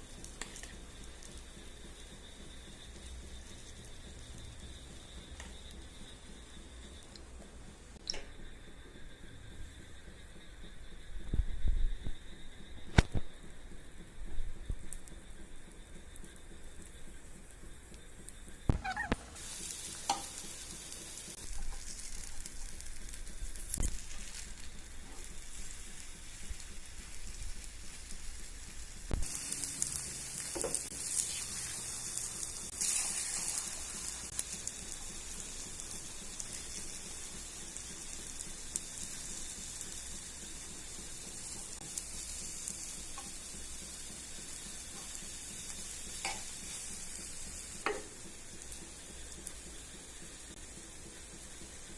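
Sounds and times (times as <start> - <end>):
batter sizzling in hot oil: 0.0 - 51.9.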